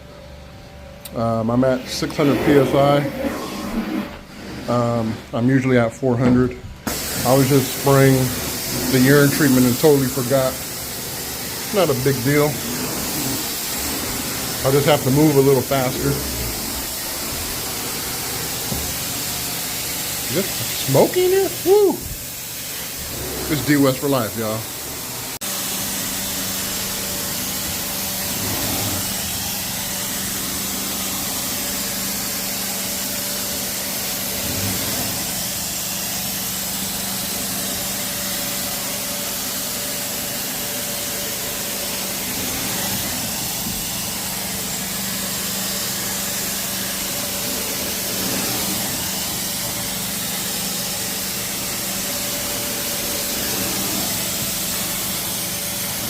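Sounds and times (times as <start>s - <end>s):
cleaning machine hum: 0.0s - 5.8s, 6.6s - 56.0s
extraction wand hissing: 6.9s - 40.6s, 41.3s - 56.0s.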